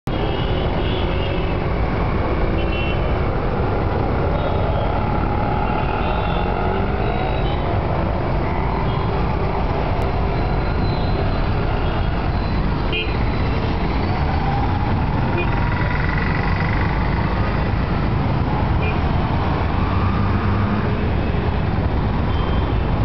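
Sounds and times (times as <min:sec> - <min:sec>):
vehicle engines rumbling: 0:00.1 - 0:23.0.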